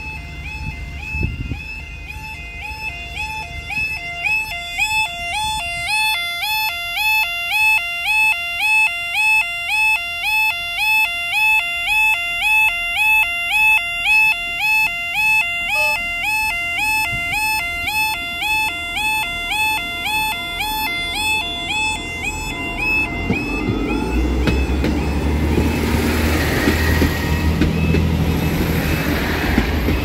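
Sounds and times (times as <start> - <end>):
level crossing two-tone alarm: 0.0 - 30.0.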